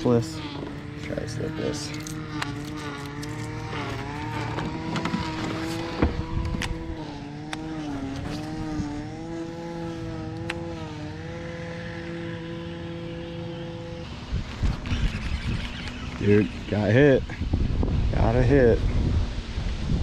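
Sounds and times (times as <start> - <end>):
boat motor whining: 0.0 - 17.7.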